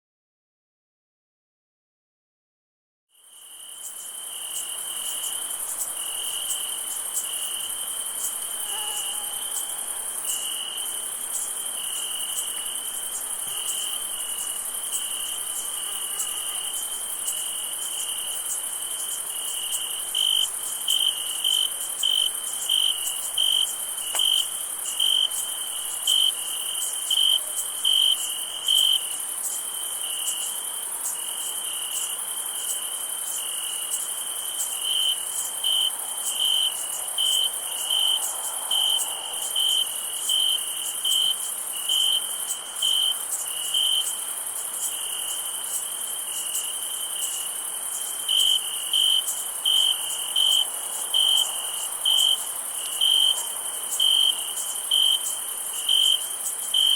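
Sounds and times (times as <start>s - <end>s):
crickets chirping: 3.2s - 56.9s
high-pitched insect trill: 3.2s - 56.9s
nearby cricket chirping loudly: 3.2s - 56.9s.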